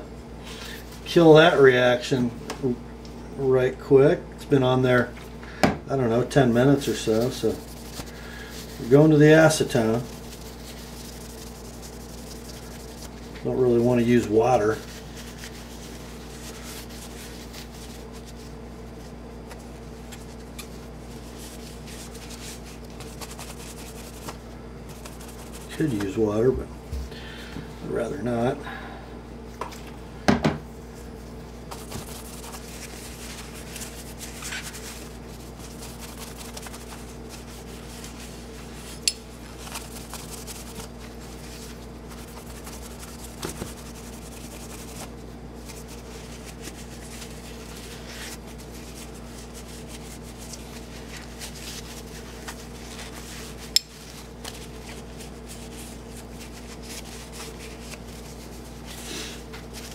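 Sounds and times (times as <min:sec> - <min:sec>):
steady low hum: 0:00.0 - 0:59.9
paper towel rubbing on metal: 0:06.1 - 0:26.4, 0:30.9 - 0:59.9.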